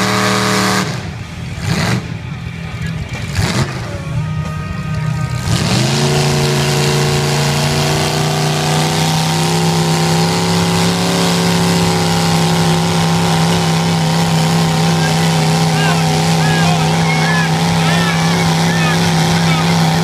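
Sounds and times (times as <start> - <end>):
truck engine revving: 0.0 - 20.0
tyres churning and splashing: 1.8 - 20.0.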